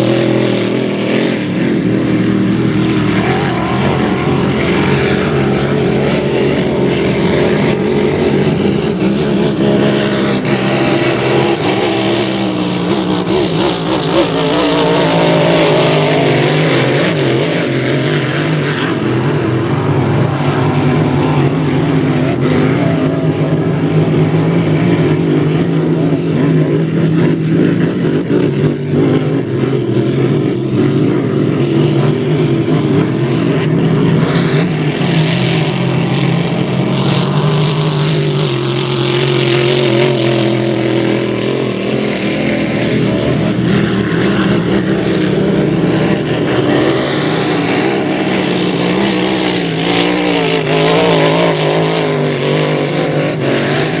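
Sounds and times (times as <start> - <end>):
racing boat engines droning: 0.0 - 54.0.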